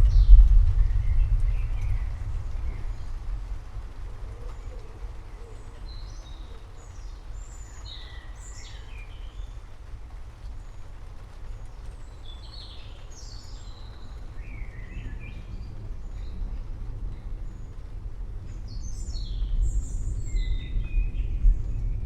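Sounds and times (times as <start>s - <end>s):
distant thunder rumbling: 0.0s - 22.0s
songbirds chirping: 0.0s - 22.0s.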